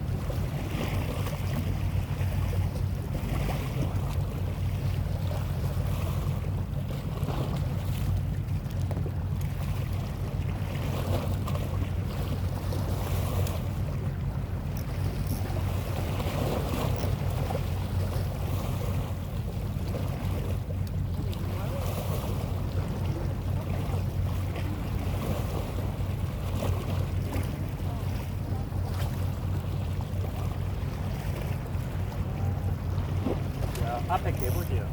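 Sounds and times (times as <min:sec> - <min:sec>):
boat engine humming: 0:00.0 - 0:34.9
water noise: 0:00.0 - 0:34.9.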